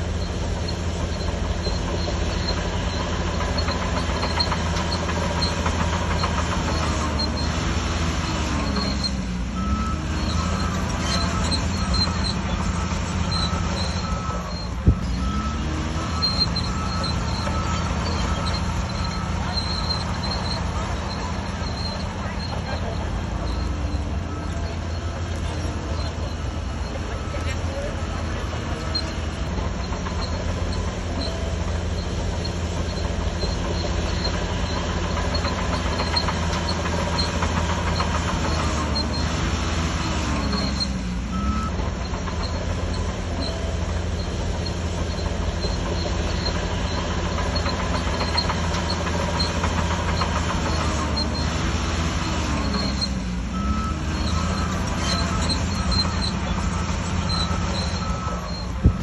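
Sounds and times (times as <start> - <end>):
bulldozer engine running under load: 0.0 - 59.0
squealing and clattering tracks: 0.0 - 59.0.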